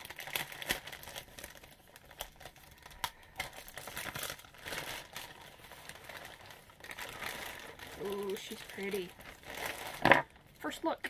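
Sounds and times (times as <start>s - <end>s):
bubble wrap and plastic crinkling: 0.0s - 11.0s
sharp plastic crackles: 0.0s - 11.0s.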